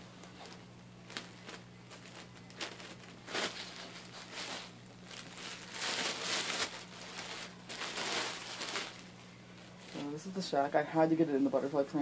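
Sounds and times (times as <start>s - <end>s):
plastic bag crinkling: 0.1s - 10.5s.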